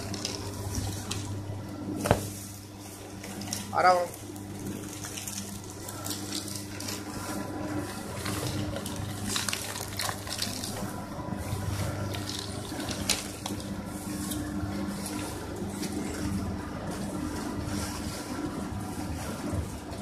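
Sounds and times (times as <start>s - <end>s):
paper shredder running: 0.0s - 20.0s.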